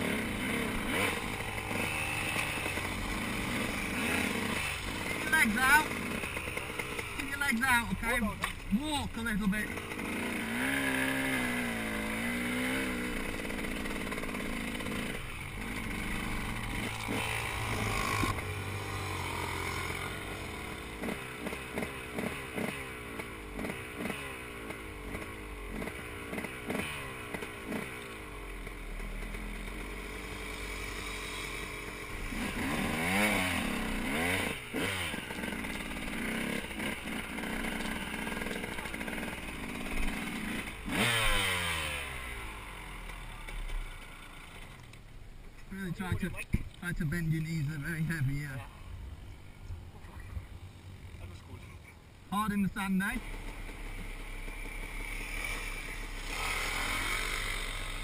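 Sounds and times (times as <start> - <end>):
dirt bike engine revving: 0.0 - 45.0, 52.3 - 58.0.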